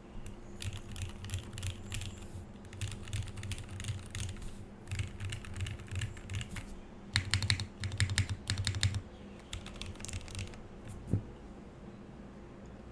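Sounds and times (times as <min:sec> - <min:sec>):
mechanical keyboard typing: 0:00.2 - 0:11.0.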